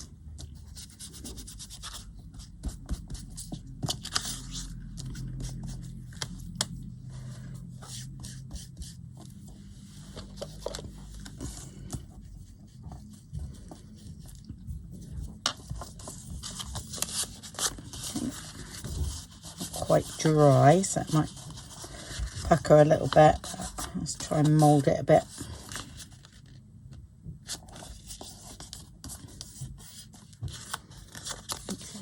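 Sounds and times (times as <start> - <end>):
rubbing and scratching on paper: 0.0 - 26.7, 27.3 - 32.0.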